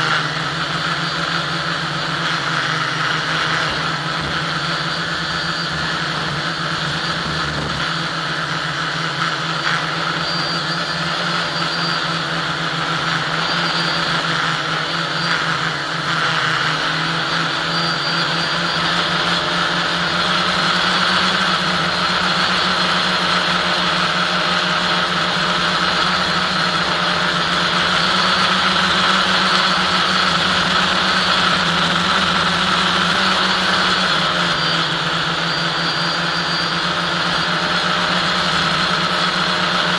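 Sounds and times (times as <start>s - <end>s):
model aircraft motor and propeller: 0.0s - 39.9s.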